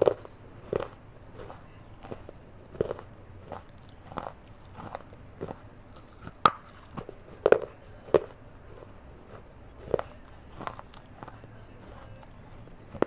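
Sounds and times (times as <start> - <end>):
chewing crunchy clay: 0.0 - 13.0.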